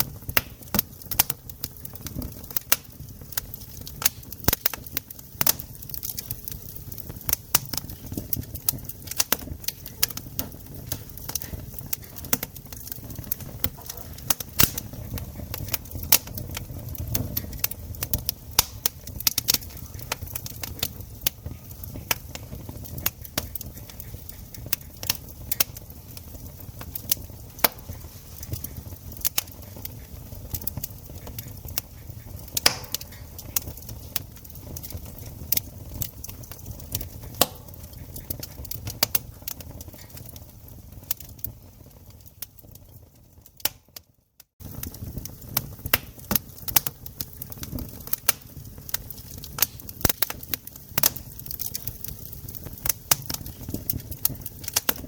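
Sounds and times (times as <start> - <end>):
campfire crackling and popping: 0.0 - 55.0
low rumble of flames: 0.0 - 55.0.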